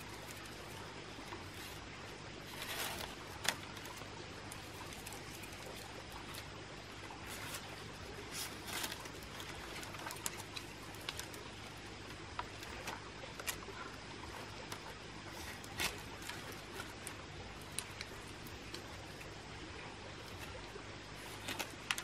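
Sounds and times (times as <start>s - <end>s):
bamboo strips rustling and crackling: 0.0s - 22.0s.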